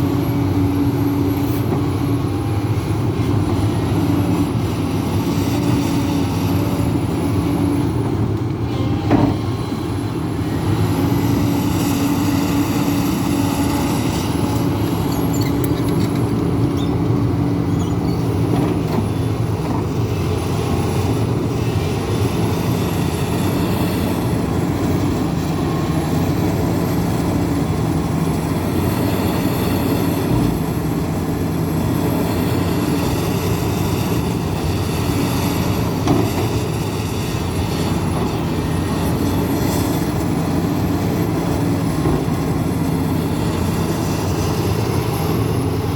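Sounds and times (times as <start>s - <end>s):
excavator diesel engine under load: 0.0s - 45.9s.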